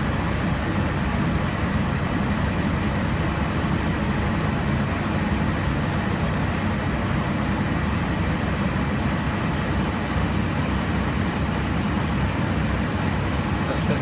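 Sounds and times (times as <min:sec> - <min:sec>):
airliner cabin airflow and engine noise: 0:00.0 - 0:14.0.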